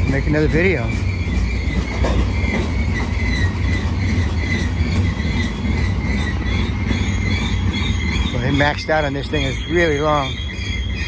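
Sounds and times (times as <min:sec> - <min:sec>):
high wheel squeal: 0:00.0 - 0:11.0
train wheels rumbling on rail: 0:00.0 - 0:11.0.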